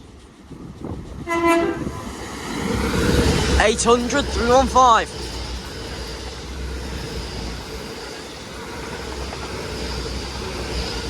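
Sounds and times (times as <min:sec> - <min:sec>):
train engines and wheels rumbling: 0:00.0 - 0:11.0.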